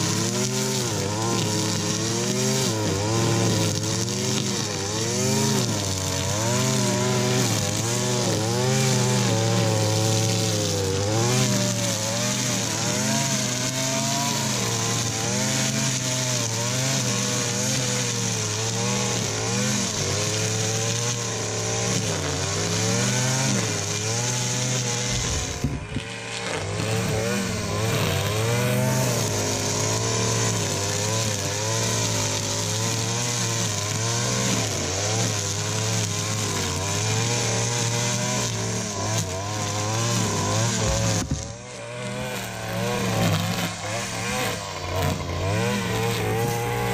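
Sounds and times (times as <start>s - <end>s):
string trimmer engine: 0.0s - 46.9s.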